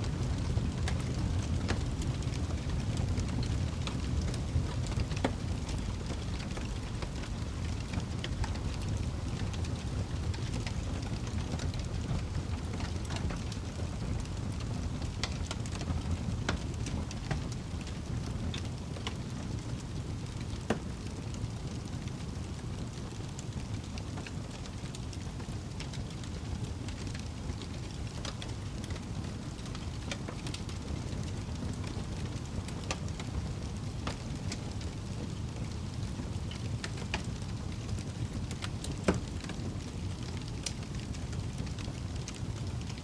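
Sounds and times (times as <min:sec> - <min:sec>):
fire crackling and snapping: 0:00.0 - 0:43.0
fire rumbling: 0:00.0 - 0:43.0.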